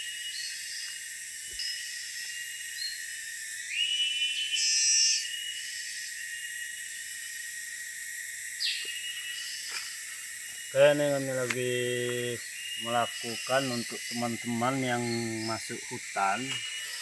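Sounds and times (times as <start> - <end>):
insects droning: 0.0 - 17.0
shrill insect call: 0.0 - 17.0.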